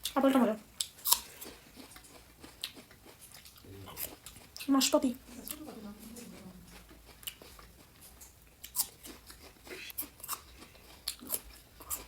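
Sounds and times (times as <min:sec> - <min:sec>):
person chewing crisp fruit: 0:00.0 - 0:12.0.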